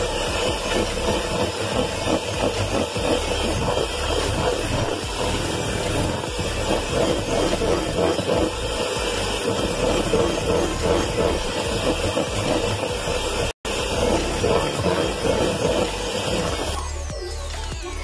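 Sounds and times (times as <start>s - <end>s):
electric hand mixer running: 0.0s - 18.0s.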